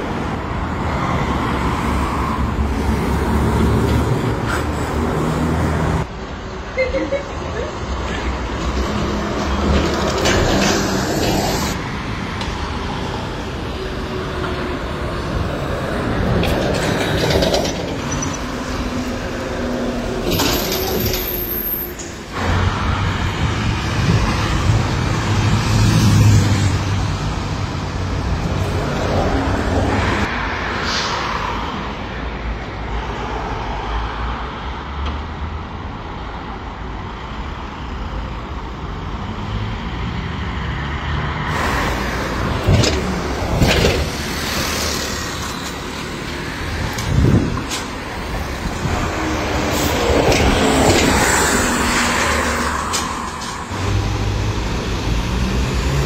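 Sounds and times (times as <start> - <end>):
heavy vehicle rumble: 0.0 - 32.6, 40.4 - 56.0
street traffic passing: 0.0 - 56.0.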